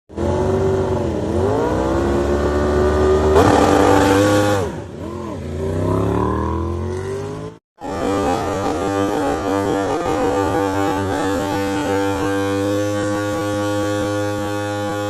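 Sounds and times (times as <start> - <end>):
motorcycle engine at high revs: 0.1 - 15.0.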